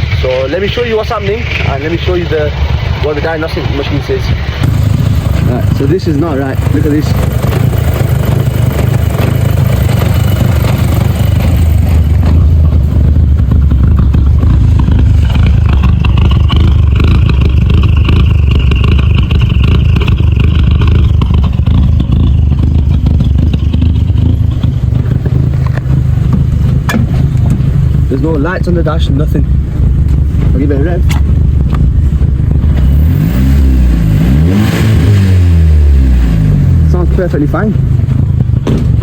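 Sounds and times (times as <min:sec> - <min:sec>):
car engine idling unevenly: 0:00.0 - 0:39.0.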